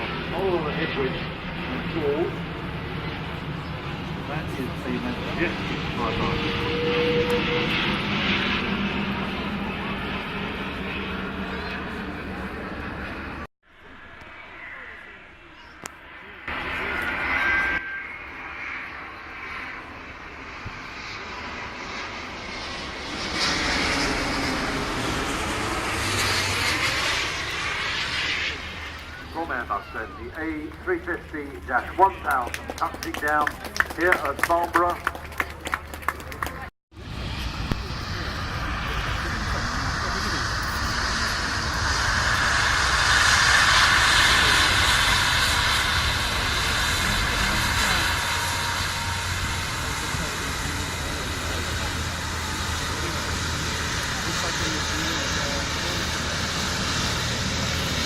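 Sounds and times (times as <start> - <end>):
airliner jet engines flying past: 0.0 - 58.0.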